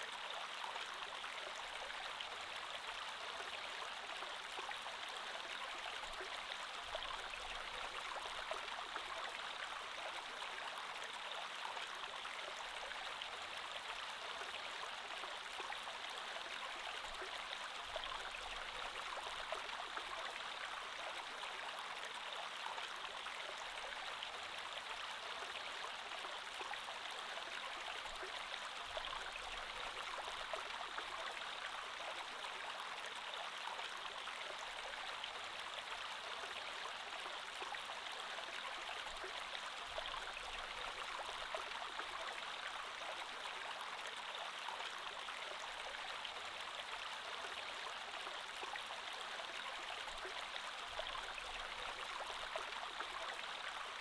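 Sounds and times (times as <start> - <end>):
creek water flowing over rocks: 0.0 - 54.0.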